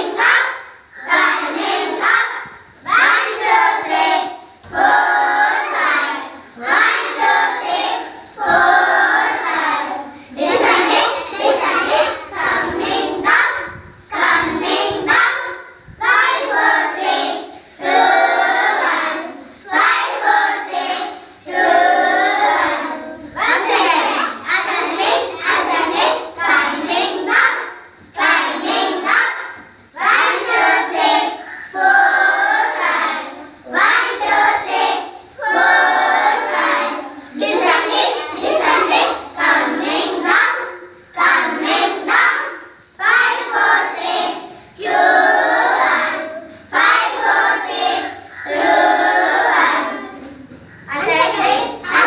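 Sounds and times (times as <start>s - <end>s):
children singing in unison: 0.0s - 52.0s.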